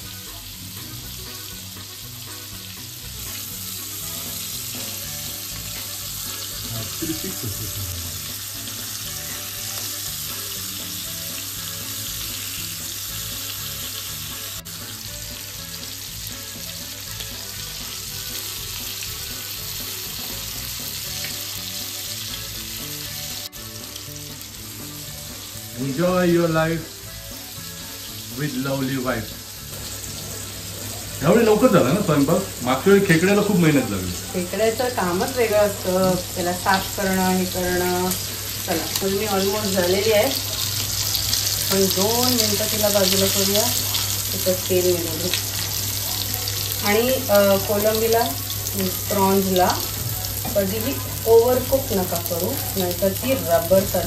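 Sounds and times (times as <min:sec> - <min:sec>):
prawns sizzling in hot oil: 0:00.0 - 0:54.0.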